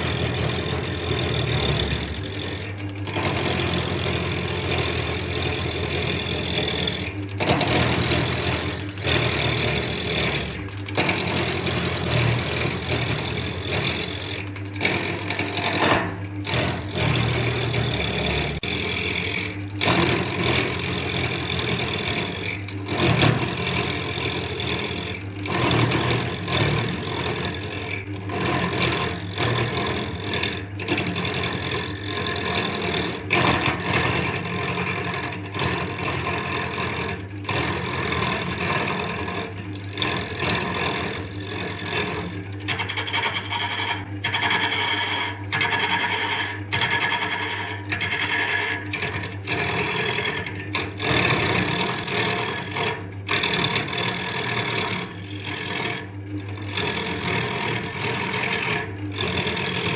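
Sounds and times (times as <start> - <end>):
turning tool scraping wood: 0.0 - 59.9
wood lathe motor hum: 0.0 - 59.9.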